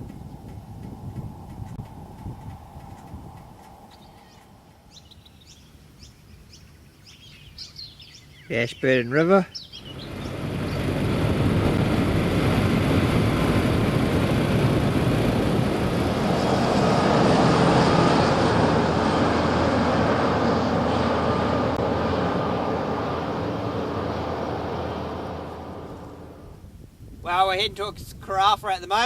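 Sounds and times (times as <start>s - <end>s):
motorcycle engine drone: 0.0s - 6.3s, 9.7s - 26.7s
wind and tyre noise: 0.0s - 29.0s.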